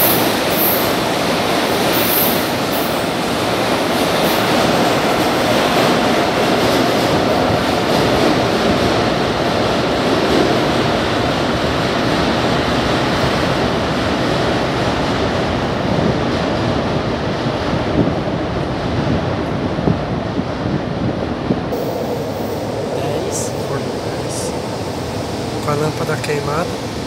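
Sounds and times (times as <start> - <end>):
metro train running on rails: 0.0 - 27.0.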